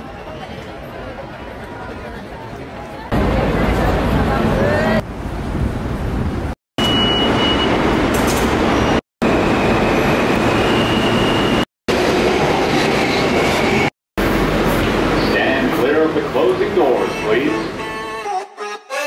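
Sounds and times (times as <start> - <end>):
subway train rumbling: 0.0 - 18.1.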